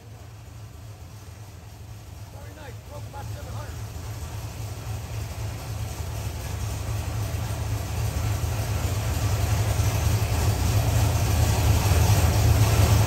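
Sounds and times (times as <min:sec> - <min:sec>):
race engine low drone: 0:00.0 - 0:13.0.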